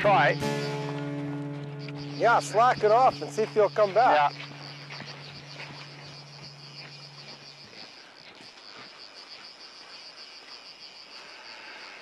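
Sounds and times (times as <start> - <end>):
rapid pulsing insect-like chirp: 1.6 - 12.0.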